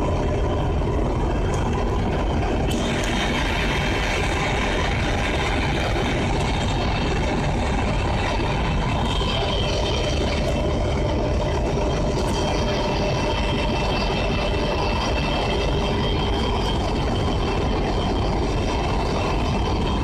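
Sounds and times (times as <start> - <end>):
diesel locomotive engines droning: 0.0 - 20.0
faint high whine: 0.0 - 20.0.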